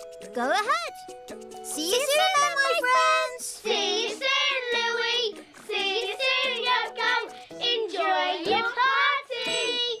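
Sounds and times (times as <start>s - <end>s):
light instrumental accompaniment: 0.0s - 10.0s.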